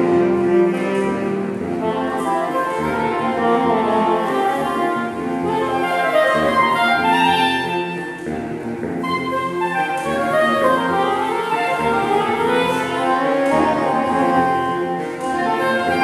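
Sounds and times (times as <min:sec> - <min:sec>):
saxophone quartet playing: 0:00.0 - 0:16.0.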